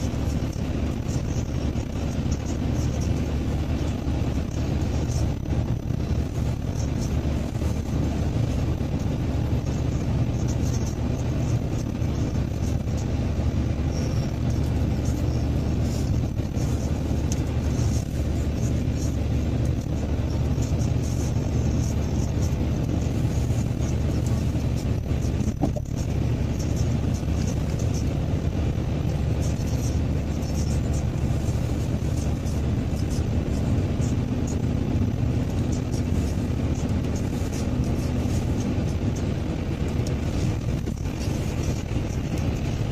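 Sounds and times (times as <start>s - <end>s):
car tyre and engine rumble: 0.0s - 42.9s.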